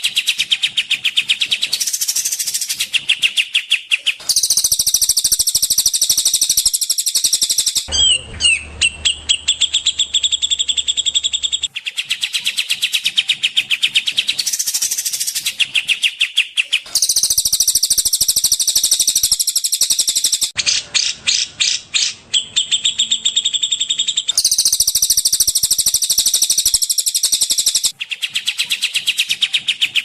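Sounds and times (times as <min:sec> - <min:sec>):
trilled bird chirping: 0:00.0 - 0:30.0.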